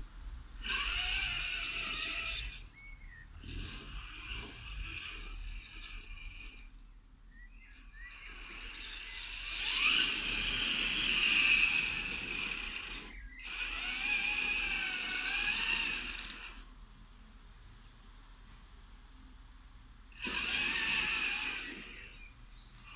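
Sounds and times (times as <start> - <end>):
toy truck motor and gears whining: 0.0 - 18.0, 19.8 - 22.9.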